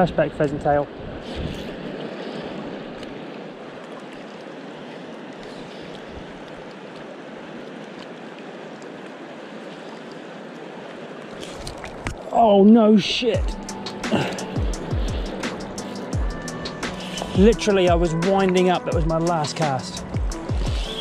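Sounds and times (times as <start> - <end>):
river flowing over cobbles: 1.6 - 21.0.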